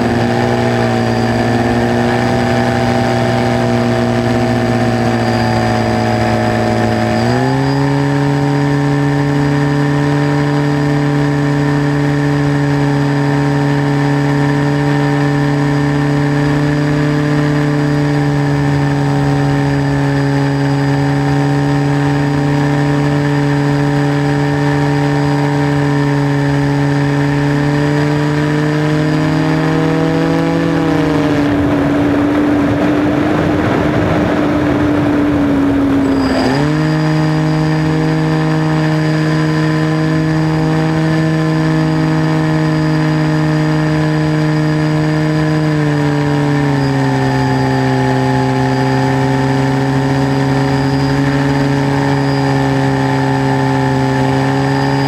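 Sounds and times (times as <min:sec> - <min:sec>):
model aircraft motor droning: 0:00.0 - 0:55.0.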